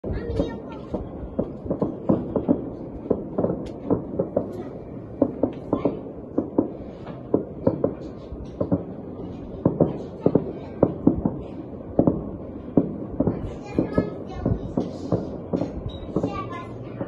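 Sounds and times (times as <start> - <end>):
distant fireworks bangs: 0.0 - 17.0.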